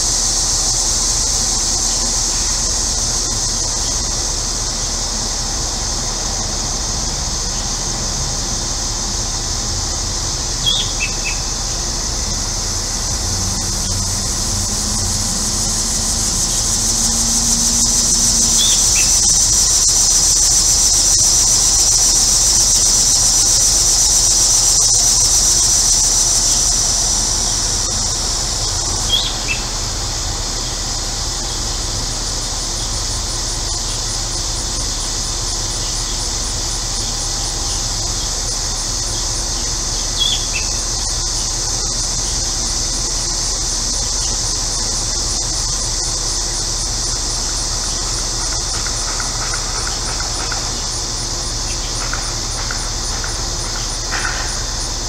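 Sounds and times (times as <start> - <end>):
air conditioner hum: 0.0 - 55.0
cicadas singing: 0.0 - 55.0.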